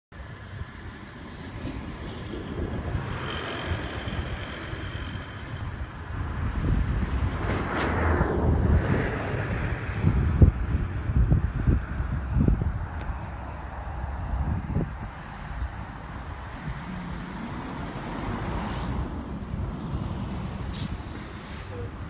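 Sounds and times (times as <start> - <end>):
wind rumbling on microphone: 0.2 - 22.0.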